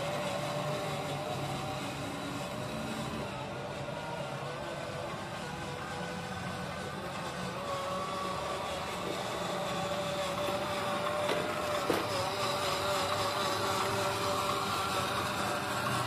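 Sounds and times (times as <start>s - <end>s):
toy truck electric motor whine: 0.0s - 16.0s.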